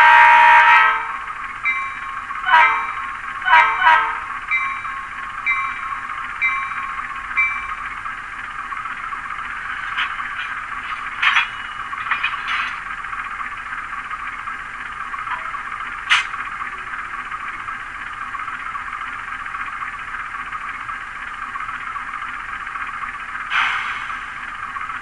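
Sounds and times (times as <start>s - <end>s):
model train diesel engine idling: 0.0s - 25.0s.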